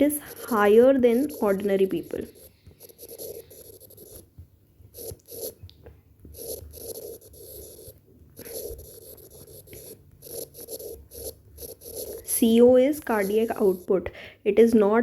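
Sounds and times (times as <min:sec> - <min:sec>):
pen scratching on paper: 0:00.0 - 0:05.6, 0:06.2 - 0:14.0.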